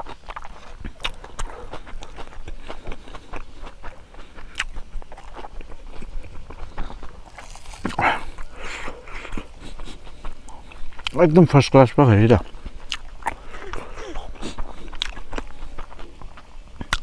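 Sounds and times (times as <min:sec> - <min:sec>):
wet chewing and mouth clicks: 0:00.0 - 0:11.6, 0:12.3 - 0:17.0.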